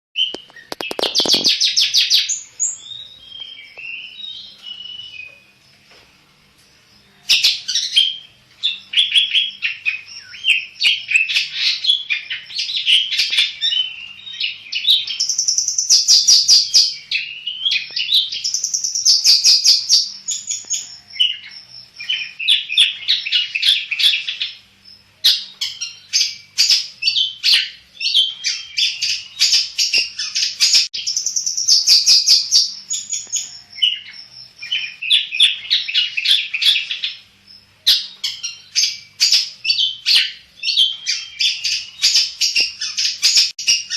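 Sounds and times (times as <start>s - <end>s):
bird singing with chattering trills: 0.2s - 5.7s, 7.0s - 43.9s.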